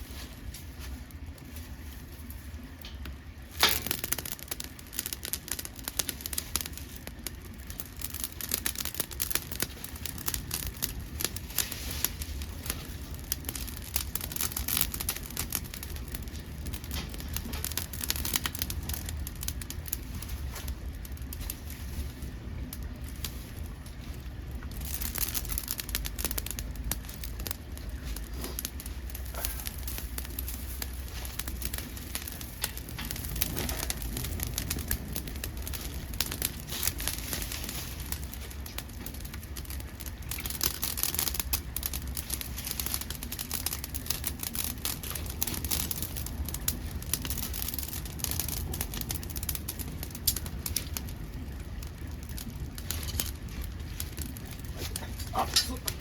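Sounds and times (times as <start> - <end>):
low steady rumble: 0.0 - 56.0
wood fire crackling and popping: 0.0 - 56.0.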